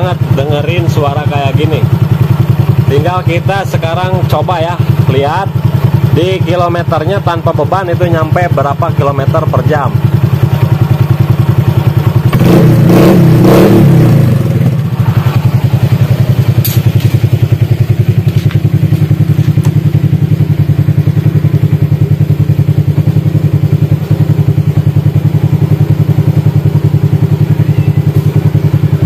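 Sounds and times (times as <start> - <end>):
scooter engine idling and revving: 0.0 - 29.0.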